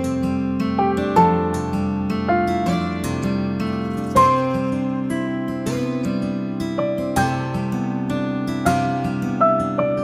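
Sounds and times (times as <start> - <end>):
plucked string instrumental music: 0.0 - 10.0.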